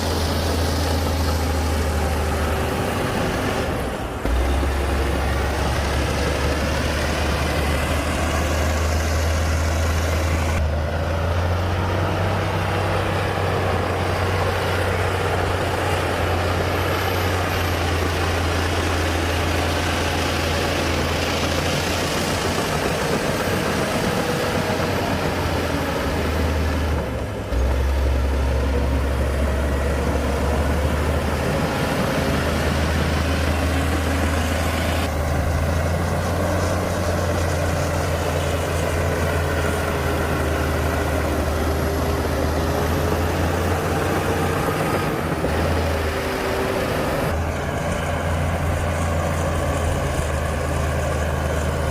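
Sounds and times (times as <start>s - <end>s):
heavy diesel machinery running: 0.0s - 51.9s.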